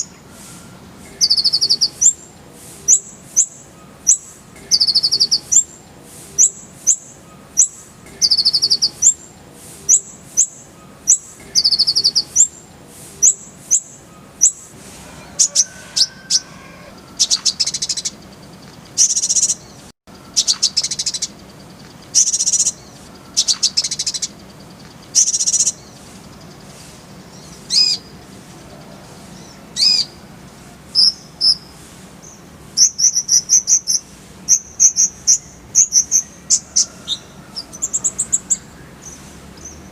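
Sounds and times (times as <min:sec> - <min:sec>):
sunbird singing high trills: 0:00.0 - 0:30.3, 0:30.9 - 0:39.9.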